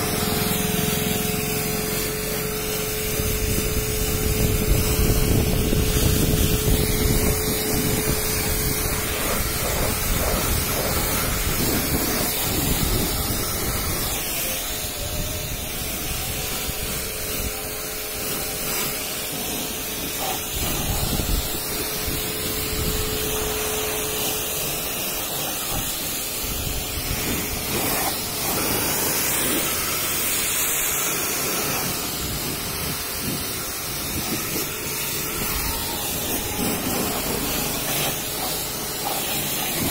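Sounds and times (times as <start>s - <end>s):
water jet spraying on car: 0.0s - 39.9s.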